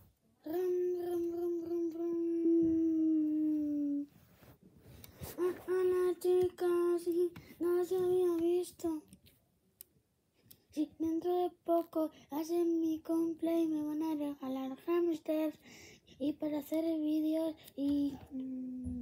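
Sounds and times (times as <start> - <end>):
child singing wordlessly: 0.4 - 4.1, 5.4 - 9.2, 10.7 - 19.0.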